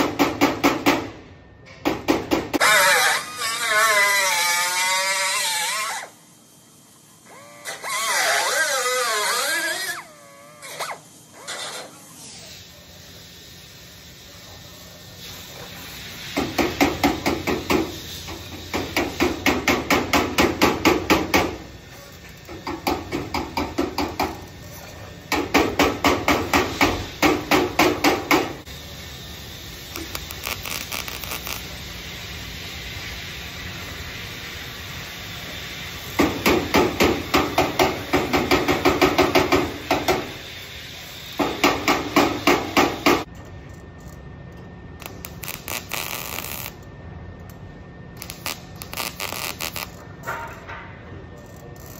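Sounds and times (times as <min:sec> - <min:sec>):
steady hum: 0:09.5 - 0:51.9.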